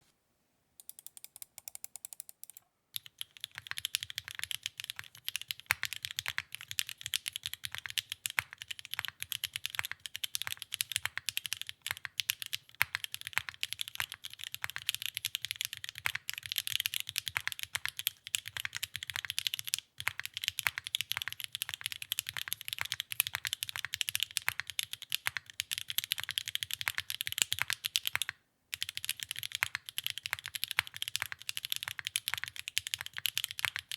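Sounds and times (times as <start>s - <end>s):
fast mechanical keyboard typing: 3.0s - 33.9s.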